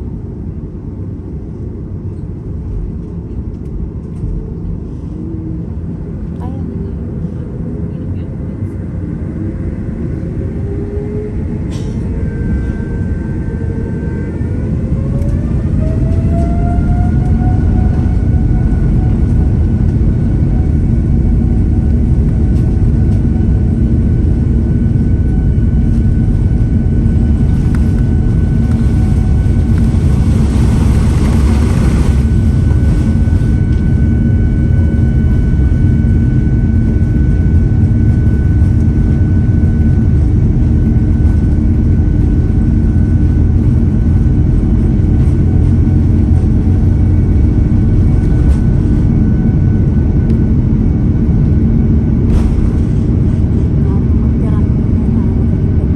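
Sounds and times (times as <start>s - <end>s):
jet engine whine: 0.0s - 55.9s
loud low rumble: 3.8s - 55.9s.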